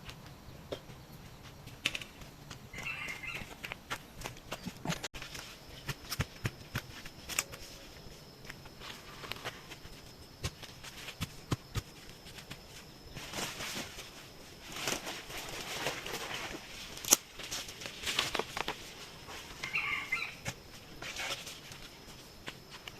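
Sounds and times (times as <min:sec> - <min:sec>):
rustling: 0:01.5 - 0:22.9.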